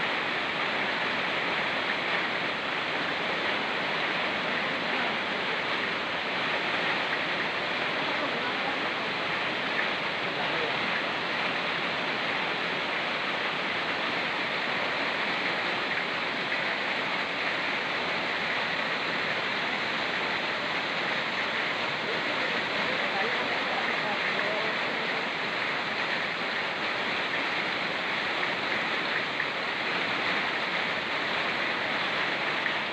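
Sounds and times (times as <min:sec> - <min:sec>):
rain falling: 0:00.0 - 0:32.9
river rushing: 0:00.0 - 0:32.9.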